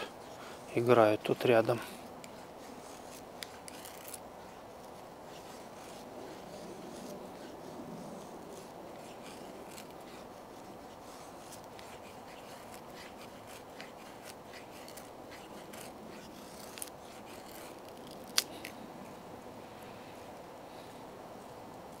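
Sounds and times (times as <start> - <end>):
knife scraping wood: 0.0 - 18.8.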